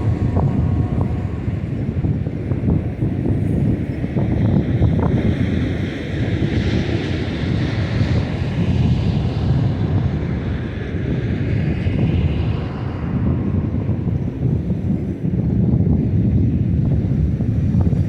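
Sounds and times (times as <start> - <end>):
freight train rumbling past: 0.0 - 17.5
wind buffeting microphone: 0.0 - 18.0.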